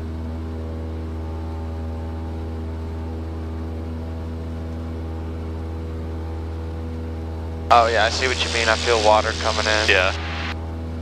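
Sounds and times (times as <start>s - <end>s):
airplane engine and propeller droning: 0.0s - 11.0s.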